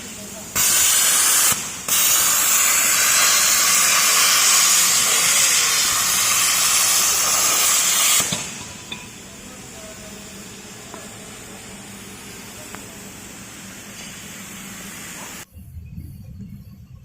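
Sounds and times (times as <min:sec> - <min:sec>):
plasma torch hissing: 0:00.0 - 0:15.5.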